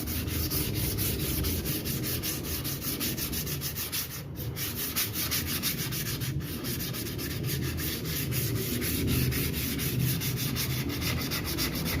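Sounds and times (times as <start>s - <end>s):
sandpaper rubbing: 0.0s - 12.0s.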